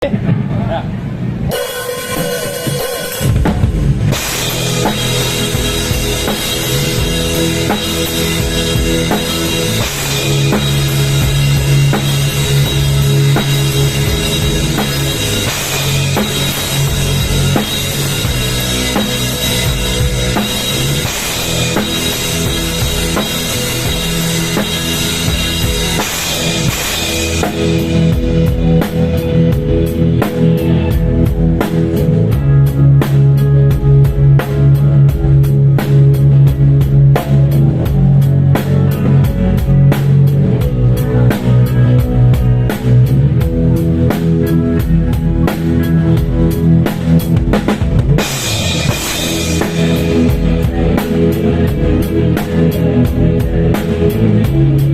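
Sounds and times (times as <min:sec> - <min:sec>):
loud music with drums and bass: 0:00.0 - 0:54.9.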